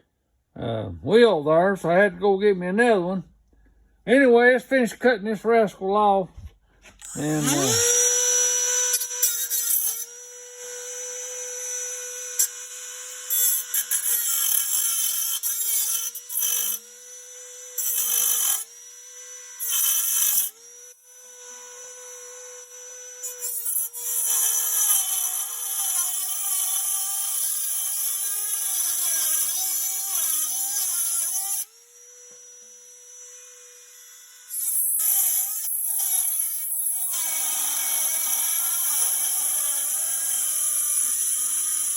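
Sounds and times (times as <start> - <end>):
rotary tool cutting metal: 7.0 - 41.9.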